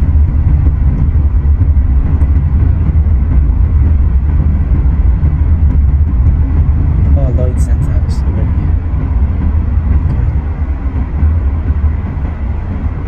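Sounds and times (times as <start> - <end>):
road and engine noise in car: 0.0 - 13.0.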